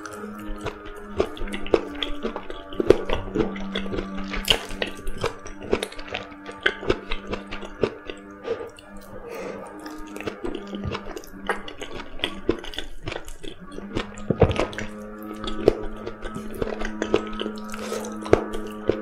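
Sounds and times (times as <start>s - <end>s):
quiet background music: 0.0s - 19.0s
wet chewing: 0.0s - 19.0s.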